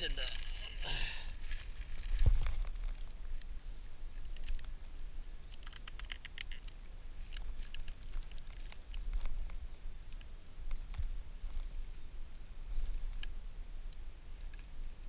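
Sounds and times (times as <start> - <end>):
dry leaves and twigs crackling: 0.0 - 15.0.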